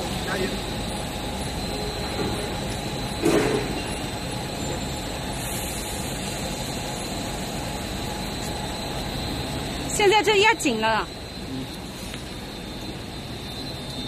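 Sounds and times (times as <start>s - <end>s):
machine humming and hissing: 0.0s - 14.0s
thin high-pitched whine: 0.0s - 14.0s.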